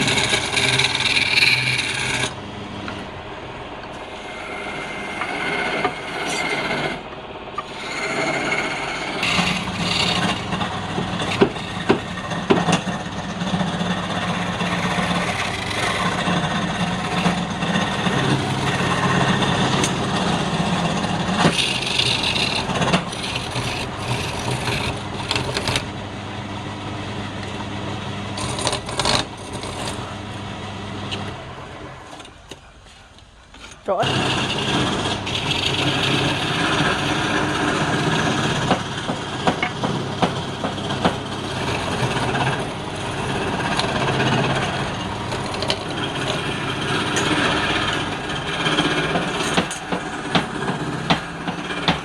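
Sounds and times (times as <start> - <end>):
lathe motor hum: 0.0 - 32.8, 33.6 - 52.0
lathe tool scraping wood: 0.0 - 52.0.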